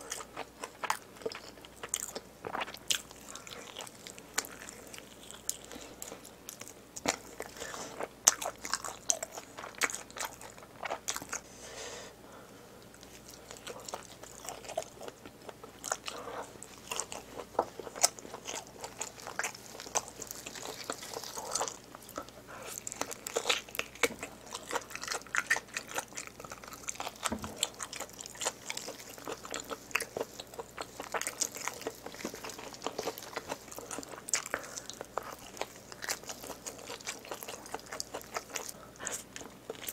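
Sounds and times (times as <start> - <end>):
chewing and biting with mouth clicks: 0.0 - 11.4, 12.8 - 39.9.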